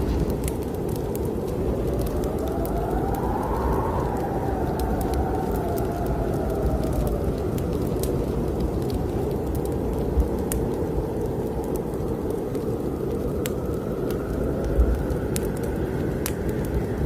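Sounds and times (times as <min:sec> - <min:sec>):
fireplace fire crackling: 0:00.0 - 0:17.0
wind blowing with hollow whistle: 0:00.0 - 0:17.0.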